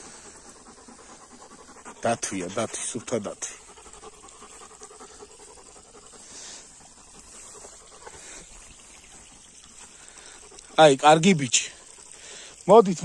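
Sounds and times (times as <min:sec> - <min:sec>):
dog panting faintly: 0:00.0 - 0:13.0.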